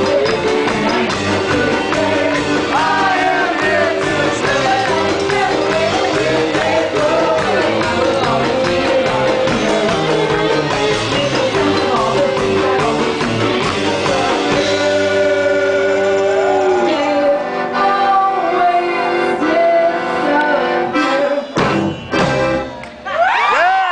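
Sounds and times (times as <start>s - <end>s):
drums: 0.0s - 17.0s, 21.0s - 23.9s
woman singing: 0.0s - 21.6s
accordion: 0.0s - 22.9s
electric guitar: 0.0s - 23.7s.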